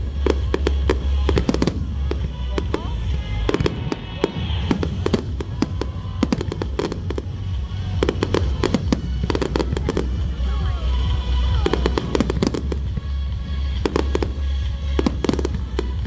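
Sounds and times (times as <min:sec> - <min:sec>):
fireworks bangs and crackles: 0:00.0 - 0:16.0
low rumble: 0:00.0 - 0:16.0.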